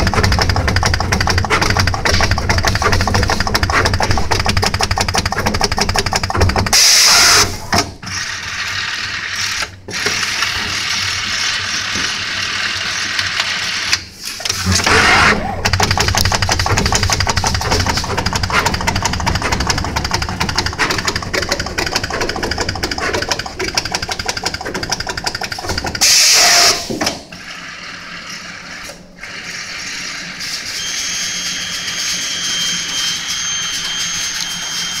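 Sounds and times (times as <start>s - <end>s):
machine mechanical clatter: 0.0s - 30.8s.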